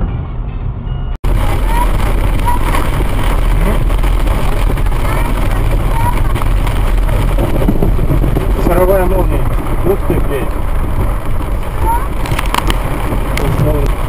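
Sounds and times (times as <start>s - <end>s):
car engine: 1.2s - 14.0s
rain on windscreen: 1.2s - 14.0s
tyres on wet road: 1.2s - 14.0s.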